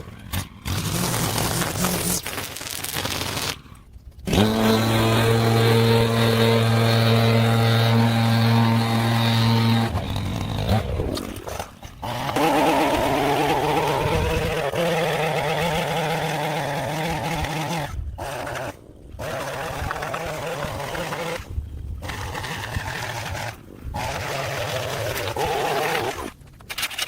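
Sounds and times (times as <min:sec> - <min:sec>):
small gasoline engine running: 0:00.0 - 0:02.2, 0:04.2 - 0:26.3.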